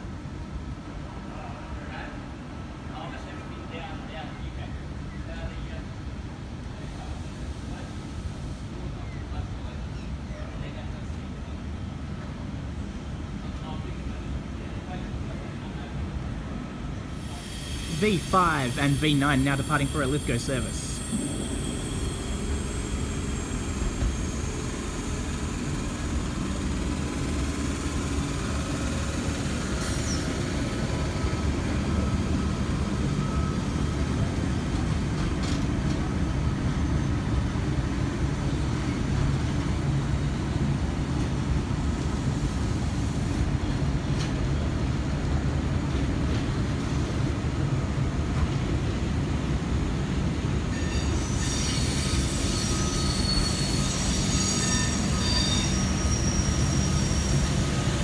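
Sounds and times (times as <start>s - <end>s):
electric train rolling past: 0.1s - 58.0s.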